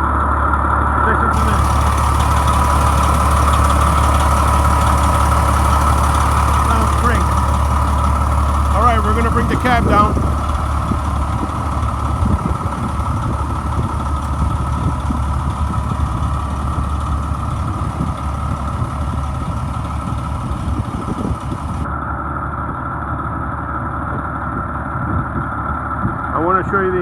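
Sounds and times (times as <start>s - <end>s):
fire truck diesel engine idling: 0.2s - 21.9s.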